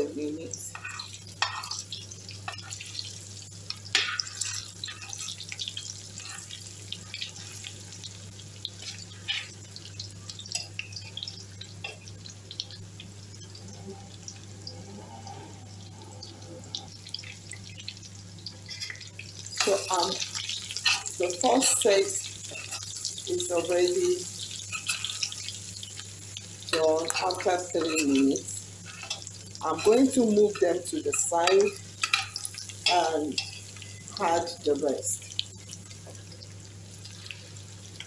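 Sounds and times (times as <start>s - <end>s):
paste frying in oil: 0.0s - 38.0s.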